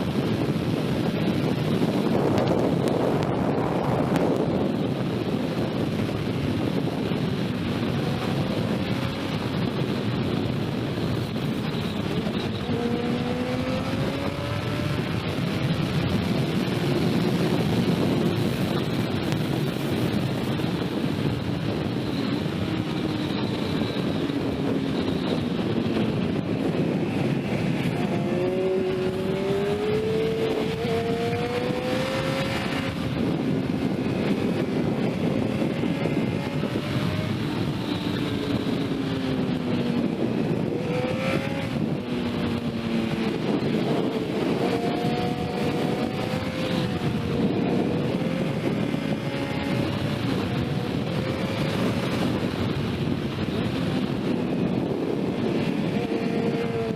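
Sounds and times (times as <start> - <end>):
motorcycle engine revving: 0.0 - 56.9
wind noise: 0.0 - 56.9.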